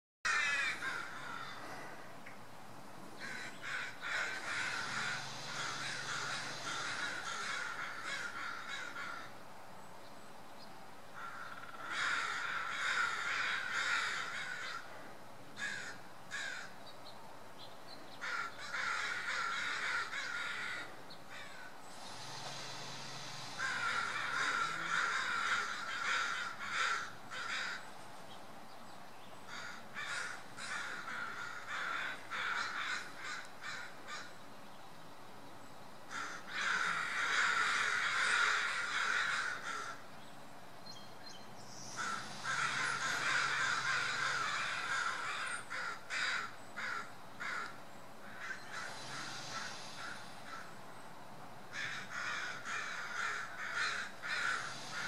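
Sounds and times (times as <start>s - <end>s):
birds rapid rough calls: 0.3s - 2.1s, 3.2s - 9.4s, 11.2s - 14.9s, 15.6s - 16.7s, 18.2s - 27.9s, 29.5s - 34.4s, 36.1s - 40.1s, 41.7s - 51.0s, 51.7s - 55.0s.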